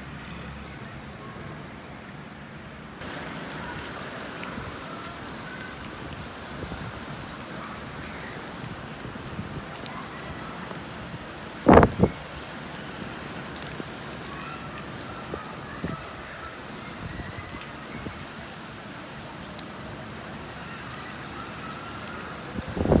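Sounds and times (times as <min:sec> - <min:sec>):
rain falling on leaves: 0:03.0 - 0:23.0.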